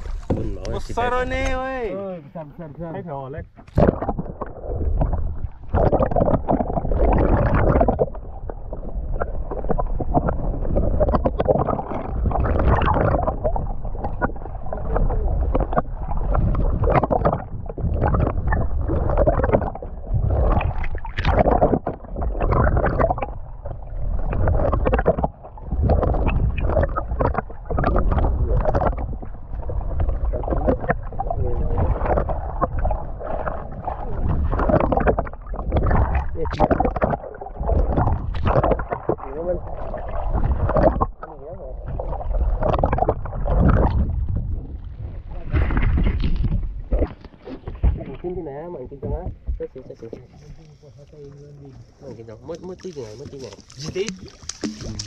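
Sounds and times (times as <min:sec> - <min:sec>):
underwater rushing water: 0:00.0 - 0:55.0.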